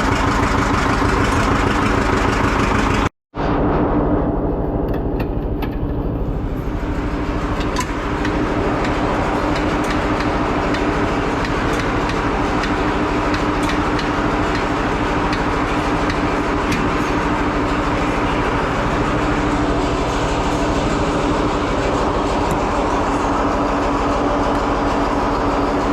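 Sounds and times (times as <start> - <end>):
diesel tractor engine chugging: 0.0 - 3.1, 4.8 - 25.9.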